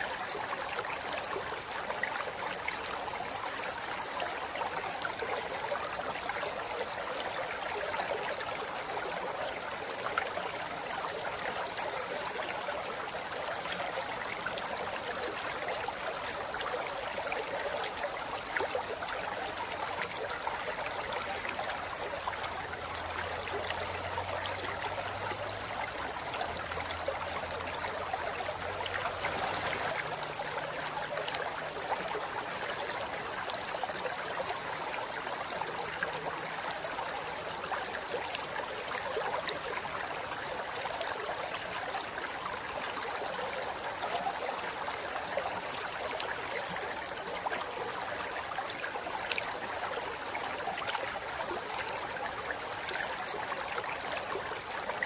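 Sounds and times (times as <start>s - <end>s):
river flowing over rocks: 0.2s - 55.0s.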